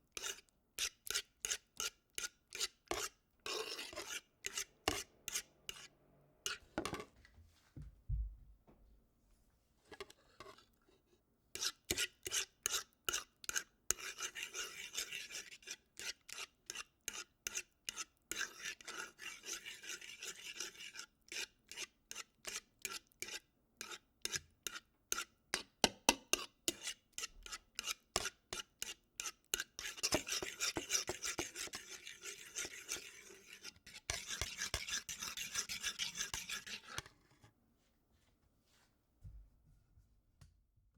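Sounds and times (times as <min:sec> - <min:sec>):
utensil scraping a pan: 0:00.1 - 0:07.1, 0:09.8 - 0:10.9, 0:11.6 - 0:37.5.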